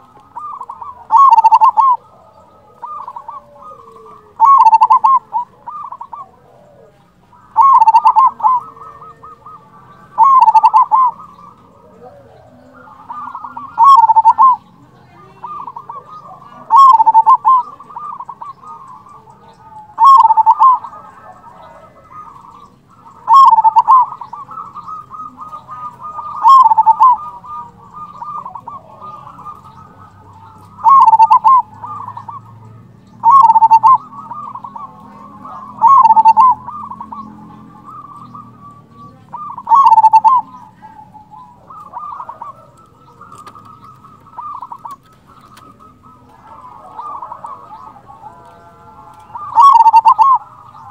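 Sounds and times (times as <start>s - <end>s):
dove cooing: 0.0s - 50.9s.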